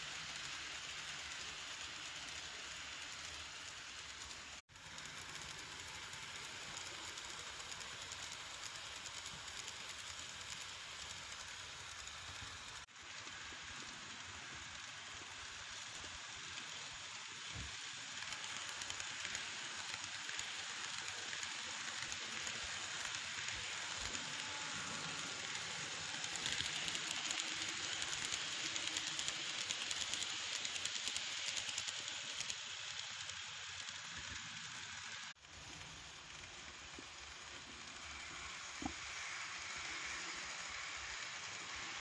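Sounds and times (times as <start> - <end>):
model train rattling on track: 0.0 - 42.0.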